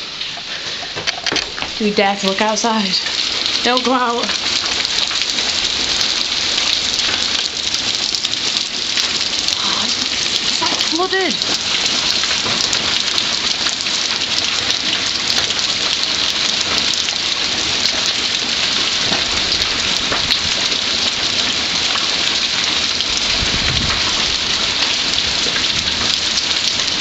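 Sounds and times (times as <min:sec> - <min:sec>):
hailstones pelting down: 0:00.0 - 0:27.0.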